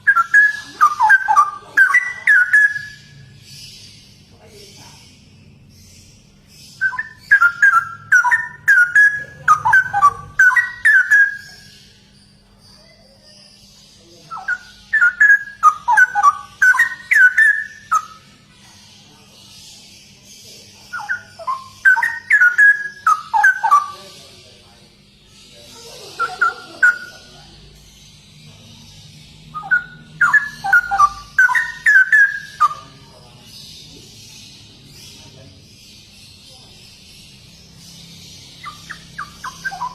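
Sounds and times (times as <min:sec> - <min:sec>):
bird singing whistled notes: 0:00.0 - 0:04.3, 0:05.8 - 0:24.7, 0:25.5 - 0:39.9.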